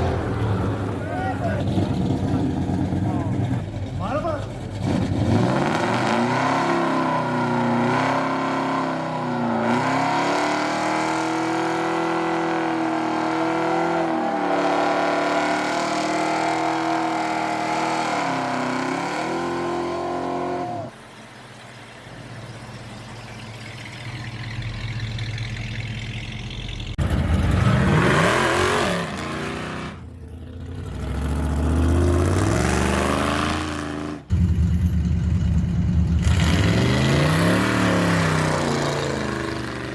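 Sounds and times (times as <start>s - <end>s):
car revving up: 4.6s - 21.1s, 22.4s - 39.9s
car engine at high revs: 4.7s - 21.2s, 21.9s - 39.9s.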